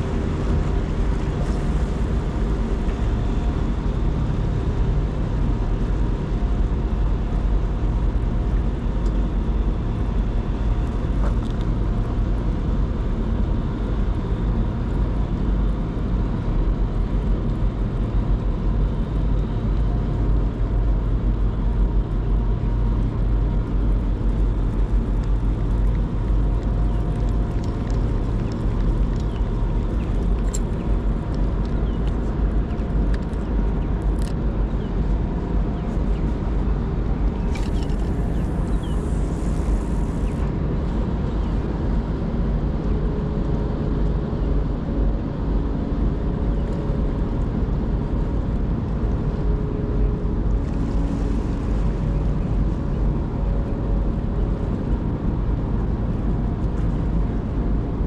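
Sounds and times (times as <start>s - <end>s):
faint humming tones: 0.0s - 58.0s
ship engines low drone: 0.0s - 58.0s.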